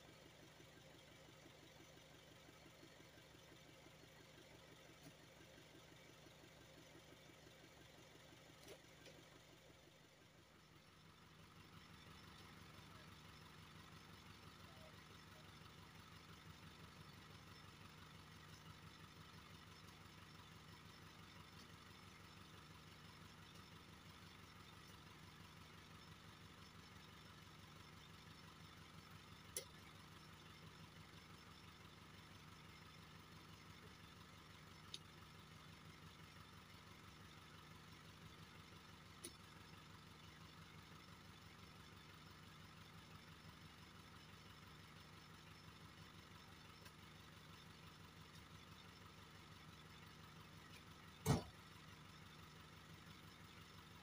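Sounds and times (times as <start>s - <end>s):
engine idling hum: 0.0s - 54.0s.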